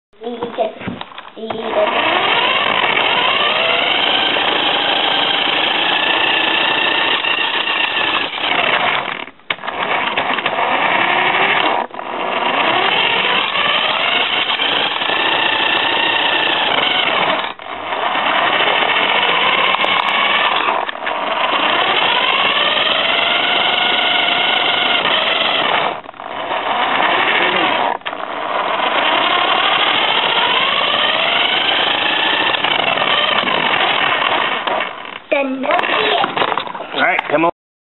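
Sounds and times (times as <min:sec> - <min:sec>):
toy car electric motor whining: 0:00.2 - 0:37.5.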